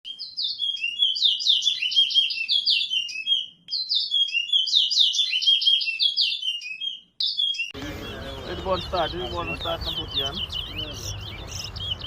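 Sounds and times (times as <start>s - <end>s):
finch singing whistled notes: 0.1s - 12.0s.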